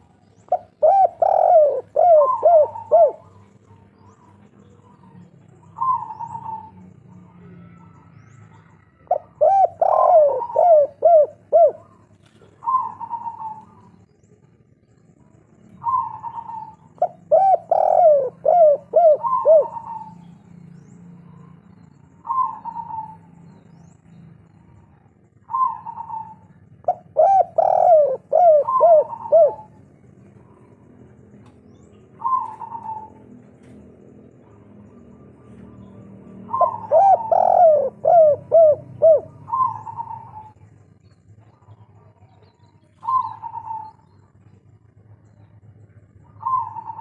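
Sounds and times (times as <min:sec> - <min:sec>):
dove cooing: 0:00.0 - 0:14.6, 0:15.7 - 0:20.4, 0:21.2 - 0:23.7, 0:24.8 - 0:40.7, 0:41.4 - 0:47.0.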